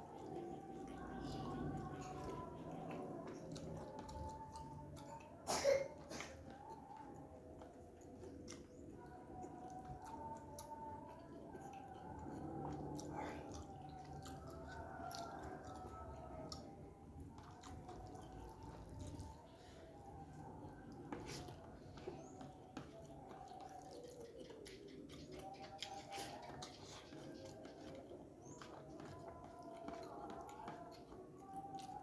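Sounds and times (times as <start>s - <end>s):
wet chewing: 0.0s - 5.4s, 6.0s - 32.0s.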